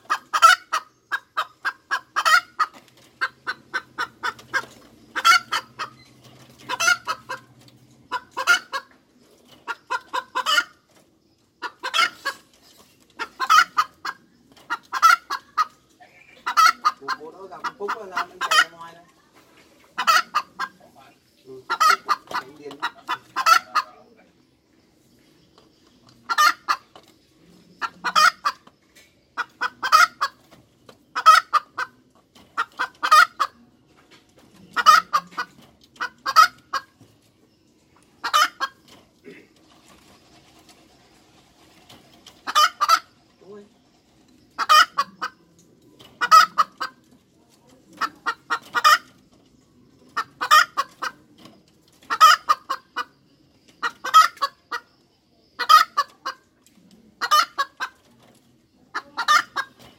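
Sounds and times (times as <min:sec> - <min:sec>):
hen clucking: 0:00.0 - 0:59.9.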